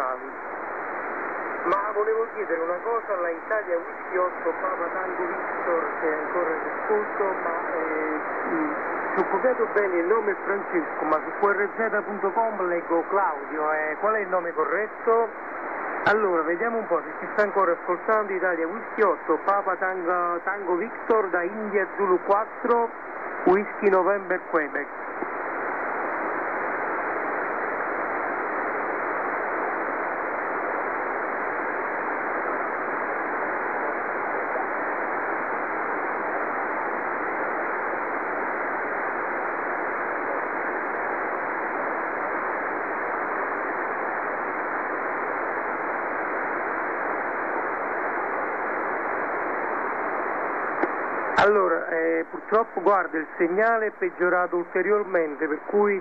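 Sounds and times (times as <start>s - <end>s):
radio band noise hiss: 0.0s - 56.0s.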